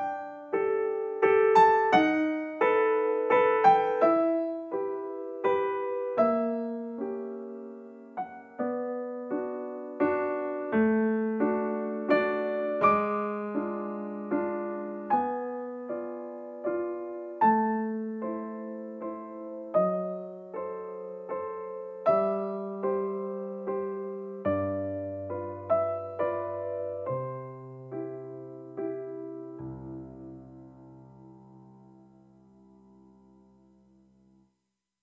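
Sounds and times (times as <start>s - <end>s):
slow gentle piano melody: 0.0s - 34.6s.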